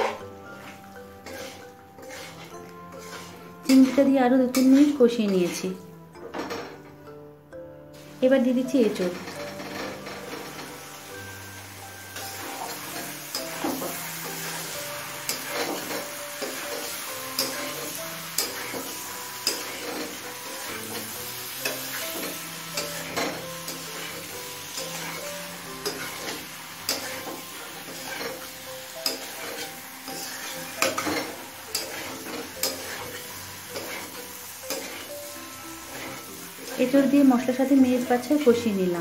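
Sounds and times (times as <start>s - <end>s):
low sizzle of frying: 0.0s - 6.8s, 7.9s - 39.0s
metal spatula scraping a pan: 0.0s - 6.9s, 8.8s - 38.6s.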